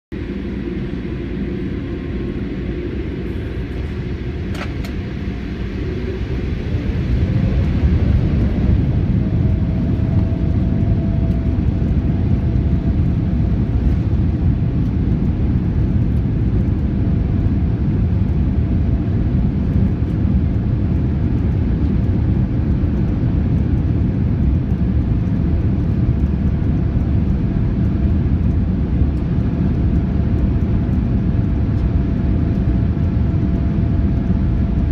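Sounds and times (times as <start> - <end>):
faint steady whine: 0.1 - 34.9
jet engines rumbling at takeoff: 0.1 - 34.9.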